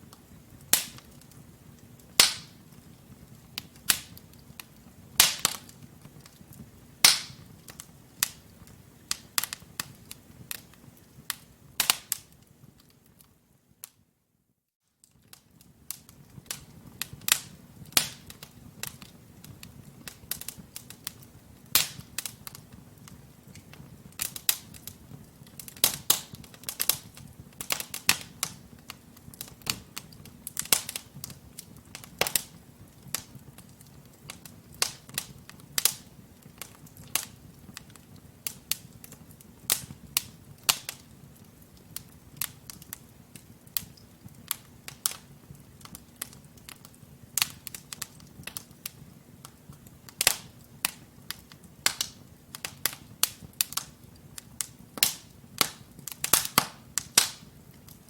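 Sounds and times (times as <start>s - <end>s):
low rumble of flames: 0.0s - 13.8s, 15.1s - 58.0s
logs crackling and popping: 0.0s - 14.0s, 15.0s - 58.0s.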